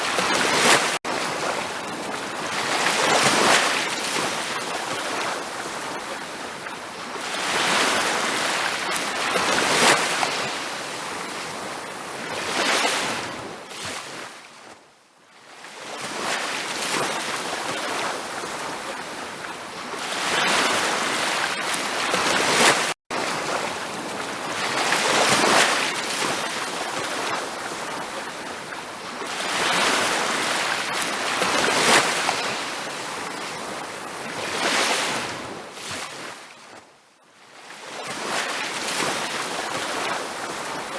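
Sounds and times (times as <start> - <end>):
ocean surf washing onto beach: 0.0 - 14.3, 16.1 - 36.4.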